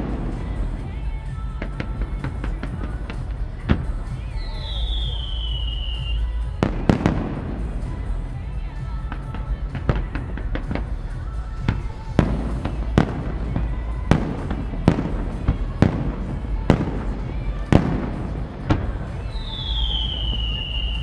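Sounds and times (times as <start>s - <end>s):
fireworks cracking and banging: 0.0s - 5.6s, 6.5s - 21.0s.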